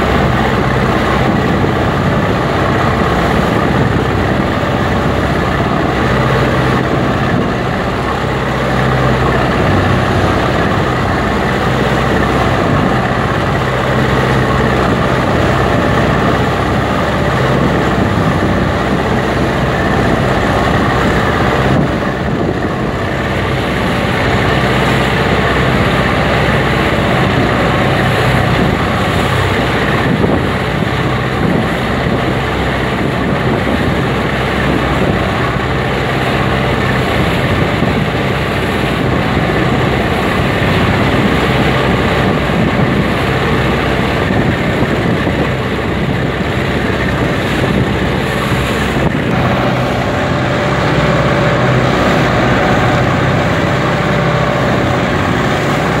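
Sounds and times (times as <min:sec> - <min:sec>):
boat diesel engines running: 0:00.0 - 0:56.0
water splashing along hulls: 0:00.0 - 0:56.0
wind on microphone: 0:00.0 - 0:56.0.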